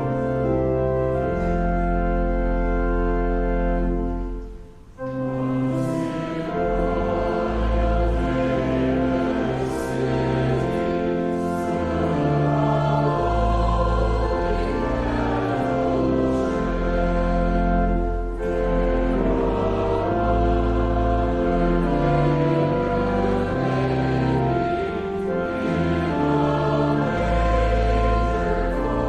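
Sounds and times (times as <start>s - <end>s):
church organ chords: 0.0s - 29.0s
group singing a hymn: 5.2s - 29.0s.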